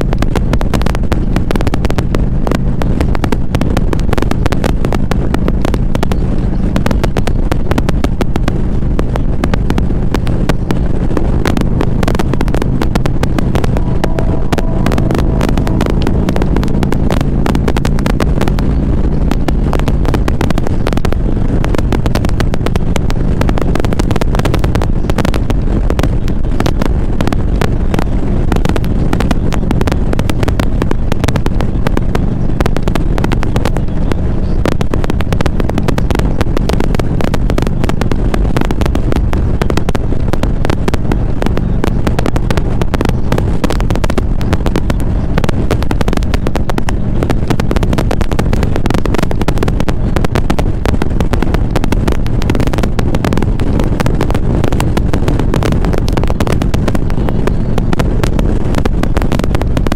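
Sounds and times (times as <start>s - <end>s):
dense crackling: 0.0s - 59.9s
motorcycle engine running: 0.0s - 59.9s.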